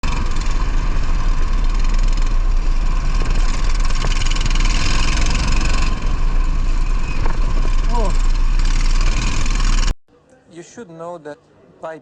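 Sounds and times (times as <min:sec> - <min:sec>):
racing engine running: 0:00.0 - 0:10.0.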